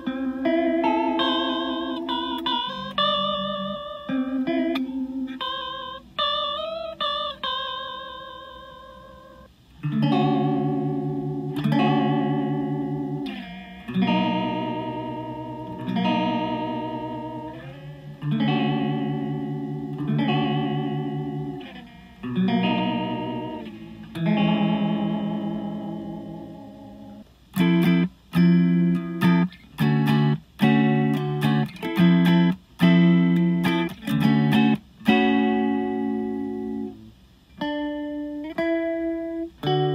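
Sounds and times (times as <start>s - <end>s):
electric guitar with chorus warble: 0.0s - 39.9s.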